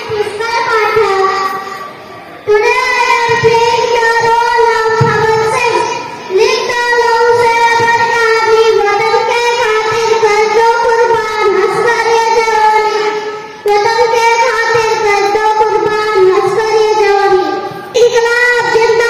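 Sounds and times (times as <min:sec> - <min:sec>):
boy singing into a microphone: 0:00.0 - 0:01.9, 0:02.5 - 0:19.0.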